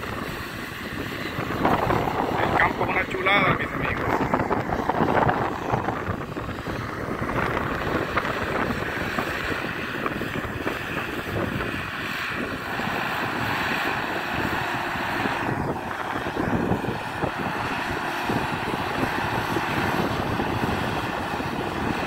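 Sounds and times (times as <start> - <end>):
distant tractor engine drone: 0.0 - 22.0
wind buffeting microphone: 0.0 - 22.0.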